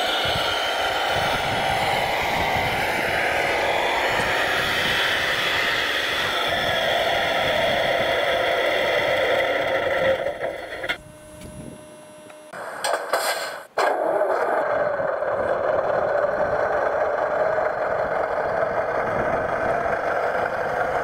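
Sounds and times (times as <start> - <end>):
electric drive and hydraulics whine: 0.0 - 21.0.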